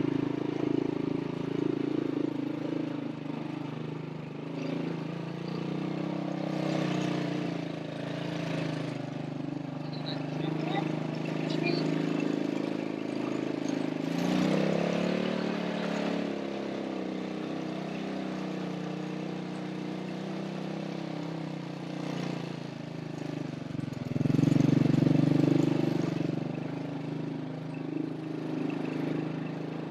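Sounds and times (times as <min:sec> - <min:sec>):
vehicle engine running: 0:00.0 - 0:29.9.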